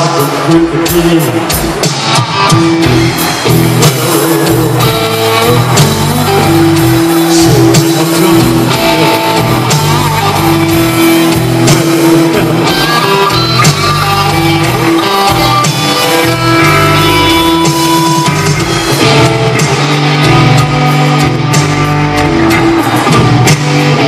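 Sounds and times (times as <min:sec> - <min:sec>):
bass guitar: 0:00.0 - 0:24.0
electric guitar lines: 0:00.0 - 0:24.0.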